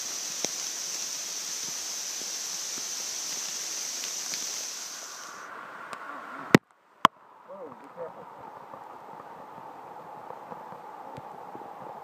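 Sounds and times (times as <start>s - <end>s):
heavy rain on leaves: 0.0s - 12.0s.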